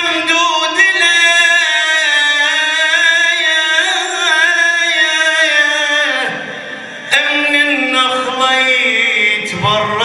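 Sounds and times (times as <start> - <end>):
man singing religious chant: 0.0 - 10.0.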